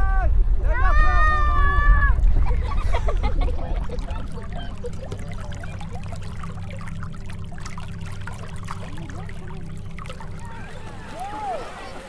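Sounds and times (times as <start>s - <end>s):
steady low rumble: 0.0s - 11.8s
faint steady hum: 0.0s - 12.0s
water lapping around a boat: 2.2s - 12.0s.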